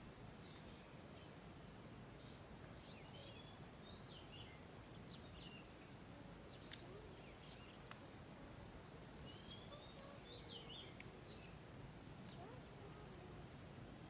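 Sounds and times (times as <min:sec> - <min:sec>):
low outdoor background noise: 0:00.0 - 0:14.0
small birds chirping: 0:00.3 - 0:14.0.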